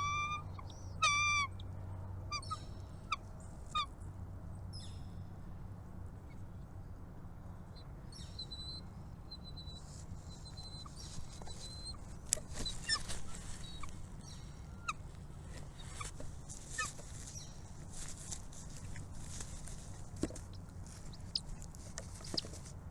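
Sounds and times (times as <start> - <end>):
small birds chirping: 0.0 - 4.0, 7.7 - 22.9
steady low hum: 0.0 - 22.9.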